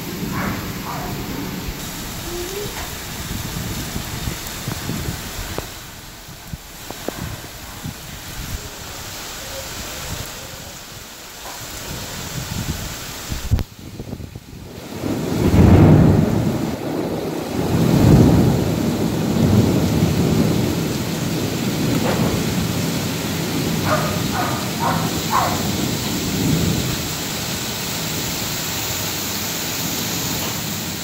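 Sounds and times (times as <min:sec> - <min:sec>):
thunder rumbling: 0:00.0 - 0:10.4, 0:13.4 - 0:28.7
heavy rain hissing: 0:00.0 - 0:31.0.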